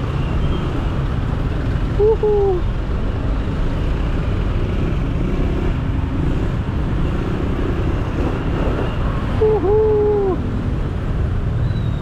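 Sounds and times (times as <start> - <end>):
traffic low rumble: 0.0 - 12.0.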